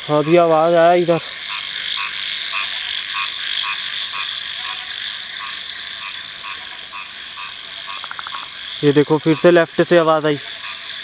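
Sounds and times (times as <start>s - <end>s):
frogs croaking: 0.0s - 11.0s
high-pitched insect trill: 0.0s - 11.0s.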